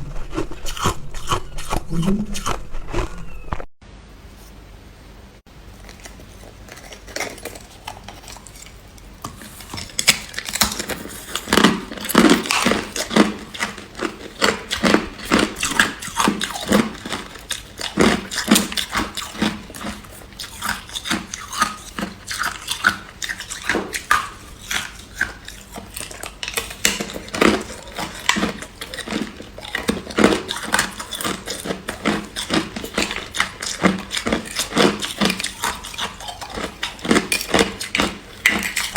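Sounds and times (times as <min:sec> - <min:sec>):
ice crunching while chewed: 0:00.0 - 0:03.7, 0:05.6 - 0:38.9.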